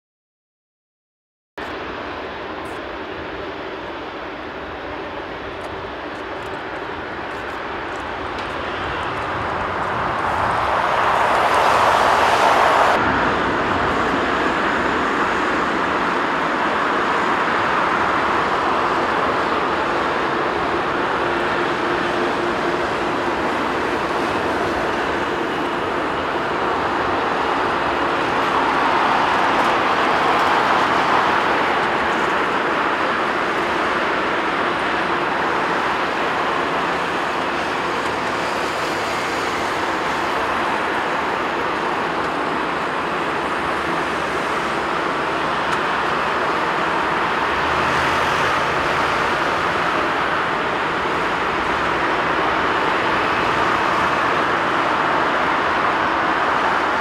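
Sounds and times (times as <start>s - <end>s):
jet engines at taxi thrust: 1.6s - 57.0s.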